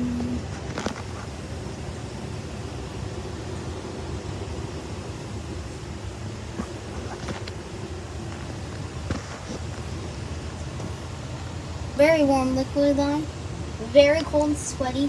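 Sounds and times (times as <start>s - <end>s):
furnace blower humming: 0.0s - 15.0s.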